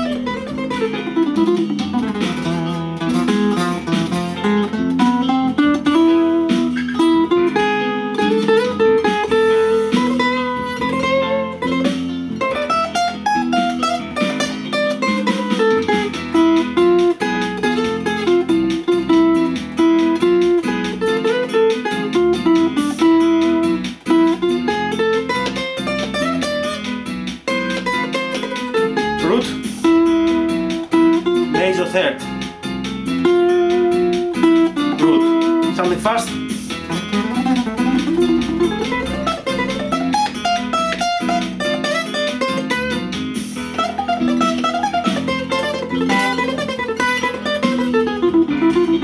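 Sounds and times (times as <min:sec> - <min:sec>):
acoustic guitar solo: 0:00.0 - 0:49.0
bossa nova backing track: 0:00.0 - 0:49.0.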